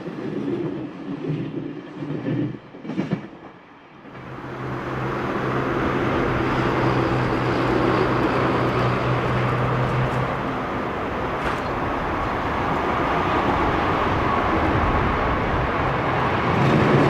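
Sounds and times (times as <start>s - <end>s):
train rumble with low hum: 0.0s - 17.0s.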